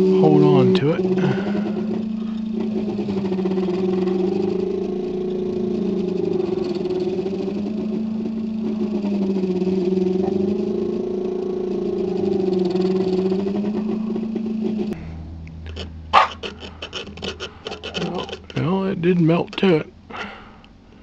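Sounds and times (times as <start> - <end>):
stepper motors humming: 0.0 - 21.0.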